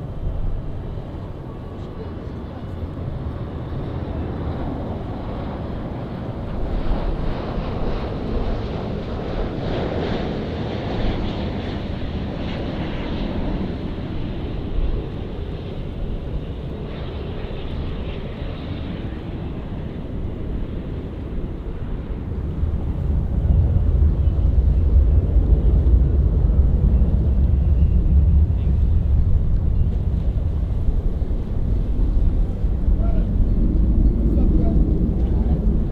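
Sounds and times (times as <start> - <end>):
jet engines rumbling: 0.0 - 35.9.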